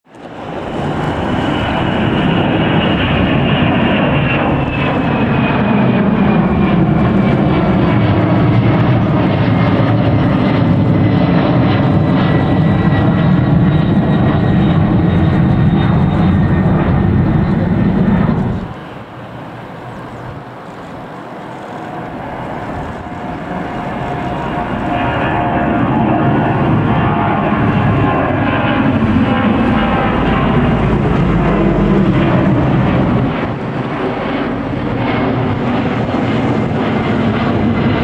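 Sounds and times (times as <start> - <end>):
jet engine noise with whine: 0.1 - 38.0.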